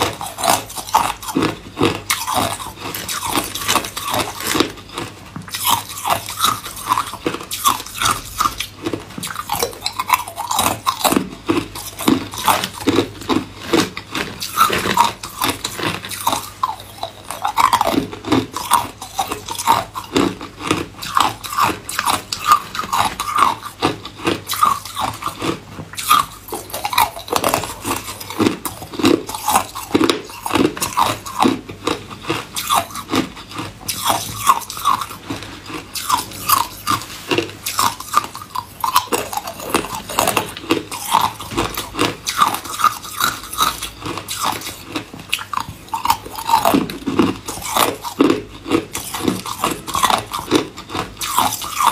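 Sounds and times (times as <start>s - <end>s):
person crunching ice cubes: 0.0s - 51.9s.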